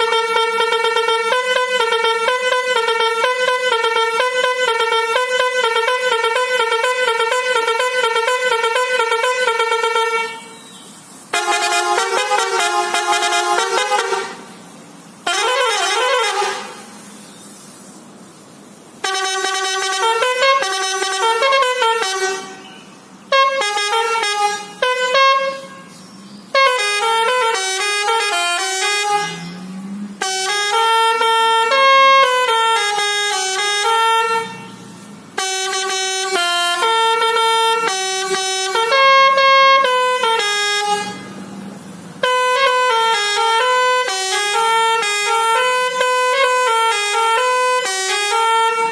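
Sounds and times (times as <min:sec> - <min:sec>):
lorry musical air horn: 0:00.0 - 0:10.6, 0:11.3 - 0:14.6, 0:15.2 - 0:17.1, 0:19.0 - 0:41.4, 0:42.2 - 0:48.9.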